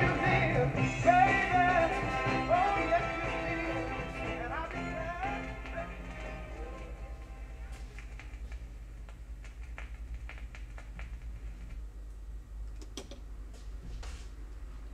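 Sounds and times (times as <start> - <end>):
turntable hum: 0.0 - 14.9.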